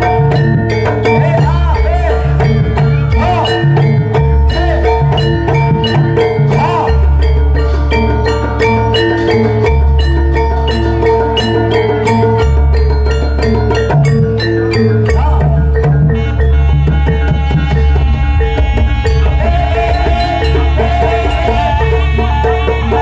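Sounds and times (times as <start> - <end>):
deep bass tones: 0.0 - 23.0
hand drums: 0.0 - 23.0
tuned metal percussion: 0.0 - 23.0.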